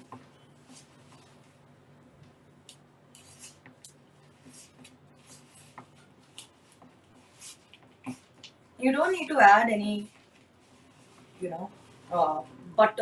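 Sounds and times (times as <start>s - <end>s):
hands rustling dough in a bowl: 0.0s - 2.4s, 3.2s - 12.4s
low steady hum: 0.0s - 13.0s.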